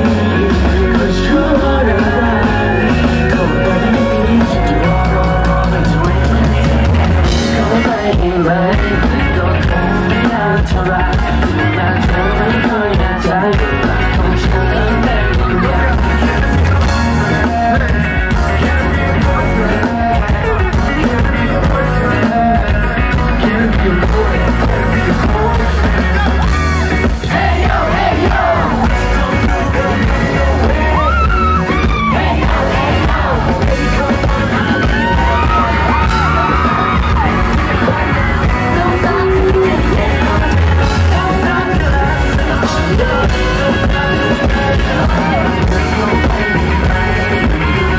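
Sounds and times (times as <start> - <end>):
crowd yelling along: 0.0 - 47.9
live pop-rock band music: 0.0 - 47.9
person singing into microphone: 0.0 - 47.9.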